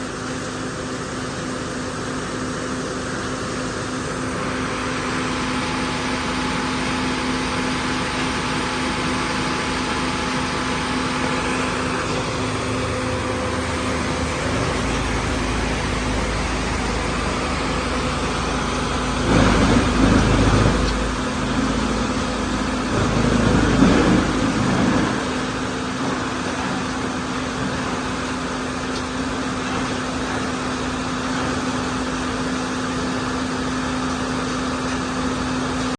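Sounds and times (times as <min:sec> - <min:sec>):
wood chipper diesel engine: 0:00.0 - 0:35.9.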